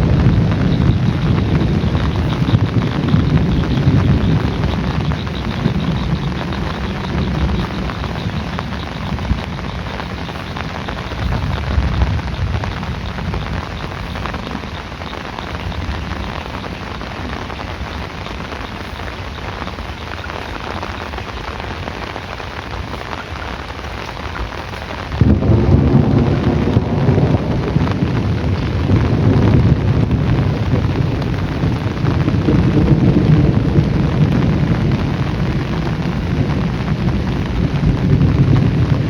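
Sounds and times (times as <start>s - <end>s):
rolling thunder: 0.0s - 18.8s, 25.0s - 39.0s
heavy rain: 0.0s - 39.0s.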